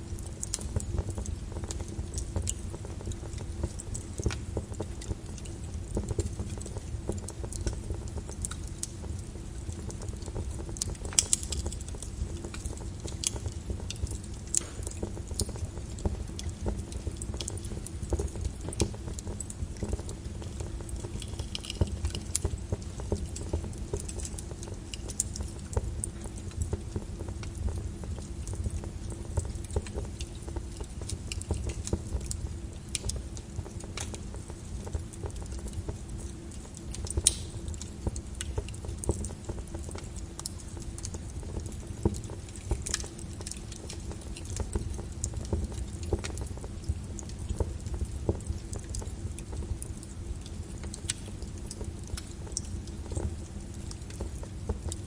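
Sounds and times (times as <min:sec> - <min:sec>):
lava crust crackling: 0:00.0 - 0:55.0.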